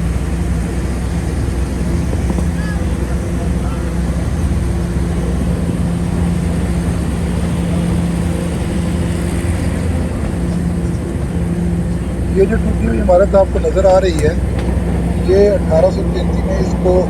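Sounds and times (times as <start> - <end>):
train rumbling and humming: 0.0 - 17.0.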